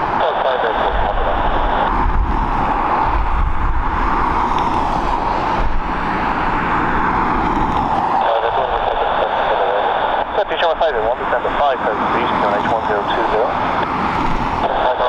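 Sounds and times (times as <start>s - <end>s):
jet aircraft engine noise: 0.0s - 15.0s.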